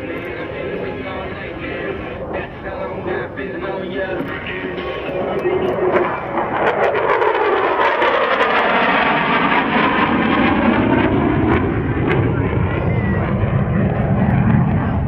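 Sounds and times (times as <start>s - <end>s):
fighter jet roaring past: 0.0s - 15.0s.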